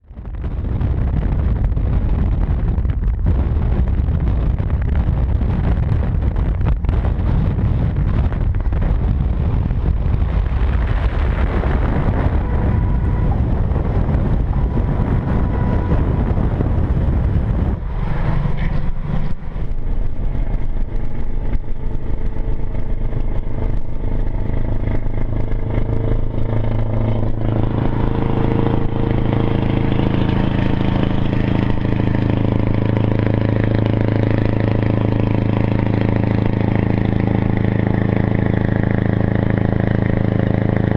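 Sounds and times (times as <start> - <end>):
truck diesel engine rumbling: 0.0 - 40.9.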